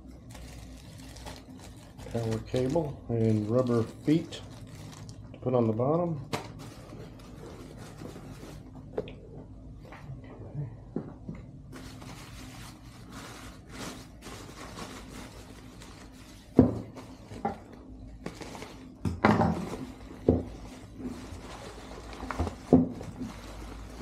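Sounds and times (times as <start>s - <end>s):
bubble wrap and cardboard rustling: 0.0s - 8.8s, 11.7s - 24.0s.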